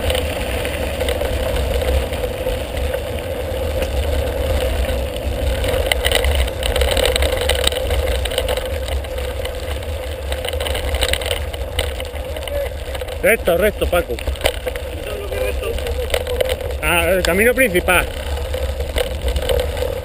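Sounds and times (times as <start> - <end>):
bike rattling over stones: 0.0 - 20.0
bike rolling on gravel: 0.0 - 20.0.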